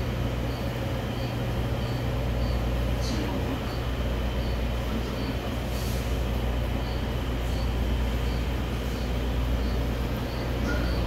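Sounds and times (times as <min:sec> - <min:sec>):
vehicle running rumble: 0:00.0 - 0:11.0.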